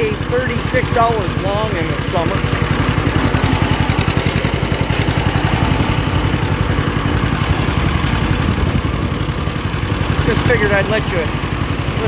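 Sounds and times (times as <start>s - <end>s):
two-cylinder tractor engine popping: 0.0s - 12.0s.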